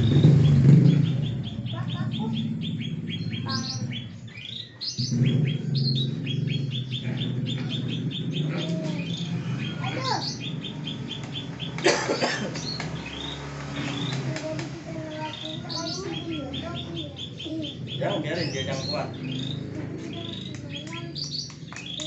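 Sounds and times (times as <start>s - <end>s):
loud harsh bird call: 0.0s - 22.0s
small birds chirping: 0.0s - 22.0s
steady low hum: 0.0s - 22.0s.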